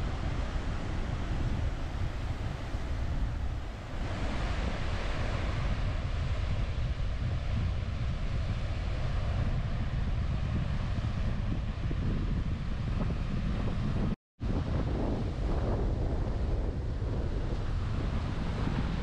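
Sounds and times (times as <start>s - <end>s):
surf on a beach: 0.0s - 19.0s
wind buffeting microphone: 0.0s - 19.0s.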